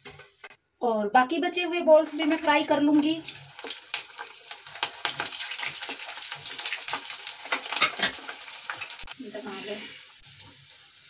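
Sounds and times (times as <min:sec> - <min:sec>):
deep-frying sizzle with crackles: 0:02.0 - 0:11.0.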